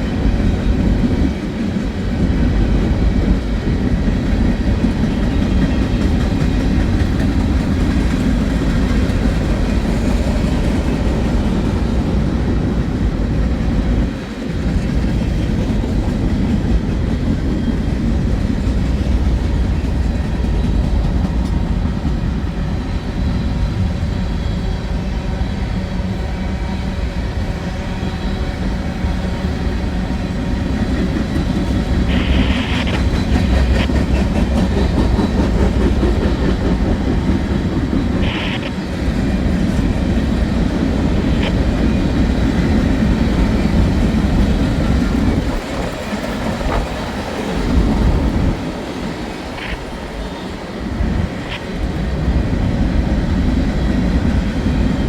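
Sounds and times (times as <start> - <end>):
freight train wheels on rail: 0.0 - 55.0.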